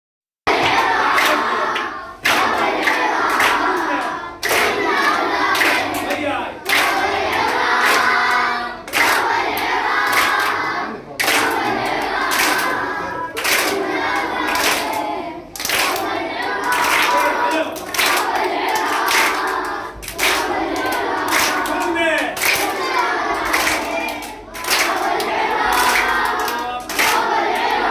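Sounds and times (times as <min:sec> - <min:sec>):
hand claps: 0:00.5 - 0:10.6, 0:11.2 - 0:27.9
children chanting in unison: 0:00.5 - 0:27.9.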